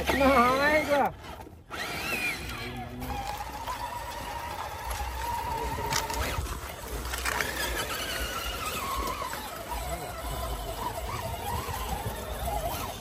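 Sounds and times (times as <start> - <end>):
rc car electric motor whine: 0.0 - 13.0.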